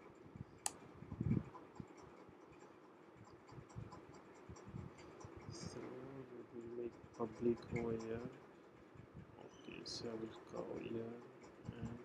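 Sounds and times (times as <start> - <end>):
faint ticks and rustling: 0.0 - 12.0.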